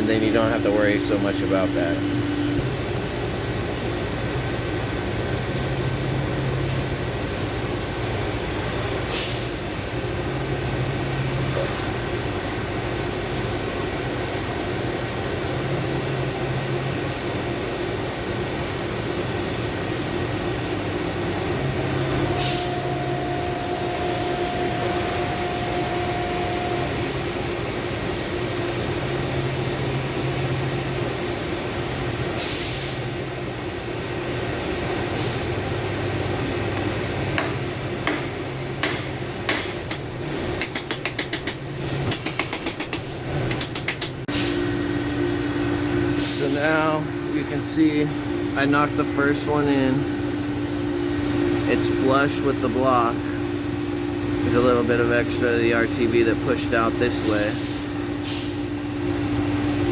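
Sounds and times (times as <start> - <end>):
machine humming and hissing: 0.0 - 59.9.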